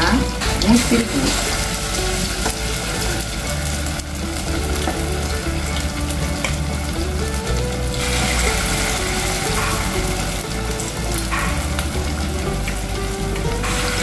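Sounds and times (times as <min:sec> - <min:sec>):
batter sizzling in hot oil: 0:00.0 - 0:14.0.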